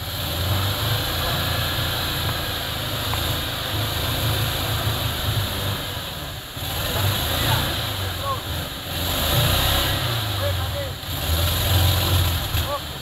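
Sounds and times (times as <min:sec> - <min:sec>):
buggy engine droning: 0:00.0 - 0:13.0.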